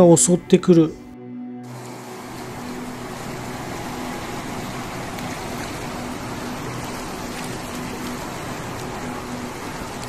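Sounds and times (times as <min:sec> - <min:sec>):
floodwater rushing: 0:01.7 - 0:10.0.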